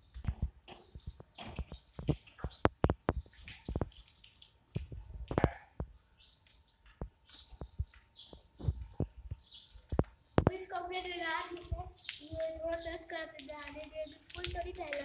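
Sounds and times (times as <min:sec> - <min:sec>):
hooves on wet concrete: 0:00.0 - 0:15.0
water dripping: 0:00.0 - 0:15.0.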